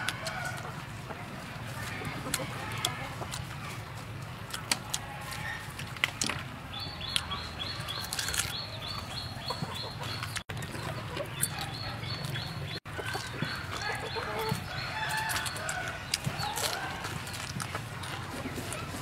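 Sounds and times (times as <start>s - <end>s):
chickens clucking: 0.0s - 19.0s
crunching and chewing: 0.0s - 19.0s.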